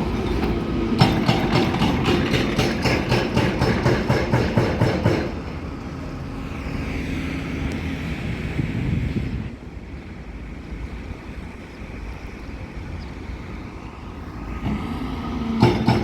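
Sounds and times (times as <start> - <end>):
excavator diesel engine and hydraulics: 0.0 - 16.0.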